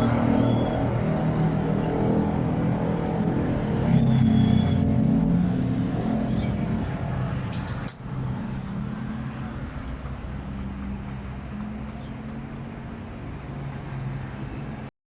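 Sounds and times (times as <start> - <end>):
motor vehicle engine running: 0.0 - 13.9.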